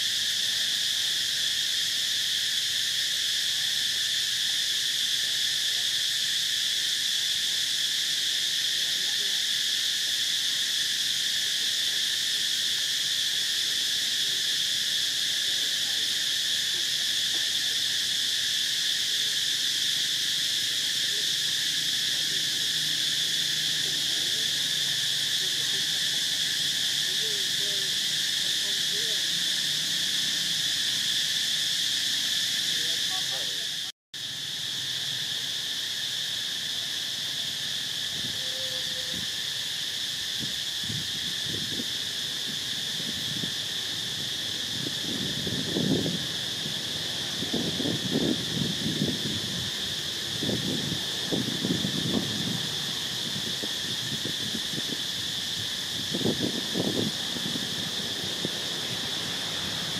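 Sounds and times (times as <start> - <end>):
insect chorus droning: 0.0 - 59.9.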